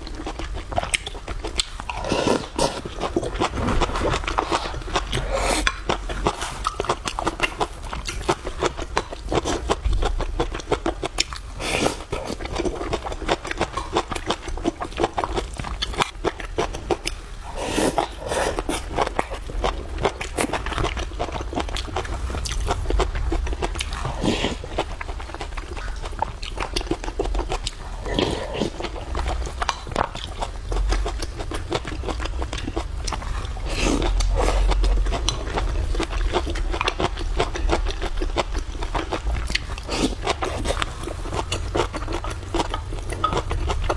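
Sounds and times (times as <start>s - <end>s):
person chewing food: 0.0s - 43.9s.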